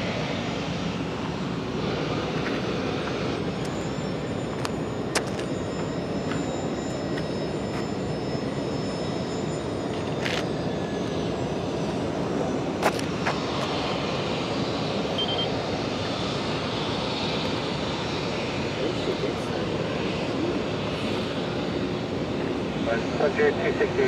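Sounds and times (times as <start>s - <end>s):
jet airliner engine noise: 0.0s - 24.0s.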